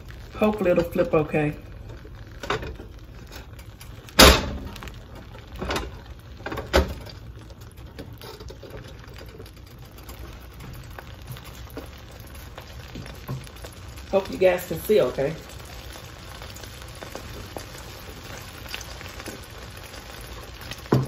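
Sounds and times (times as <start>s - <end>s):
eggs sizzling in a pan: 0.0s - 21.0s.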